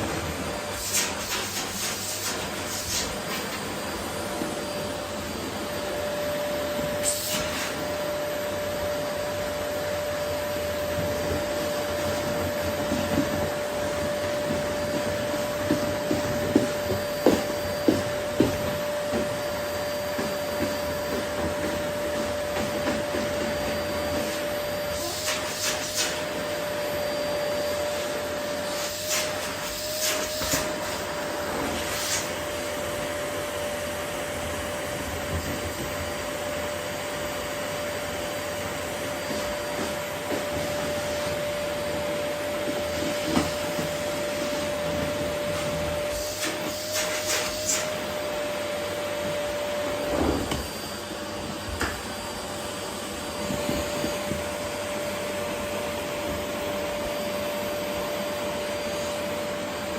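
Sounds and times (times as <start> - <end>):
vacuum cleaner motor hum: 0.0 - 59.9.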